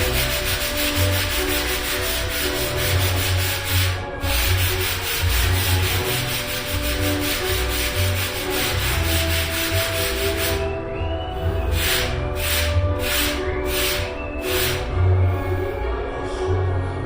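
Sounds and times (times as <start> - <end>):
sandpaper sanding: 0.0 - 10.7, 11.6 - 15.6.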